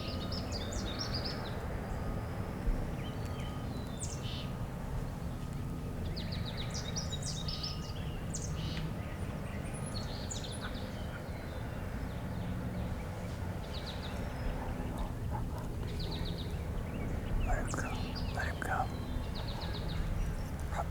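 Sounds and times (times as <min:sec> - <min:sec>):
songbirds chirping and trilling: 0:00.0 - 0:20.9.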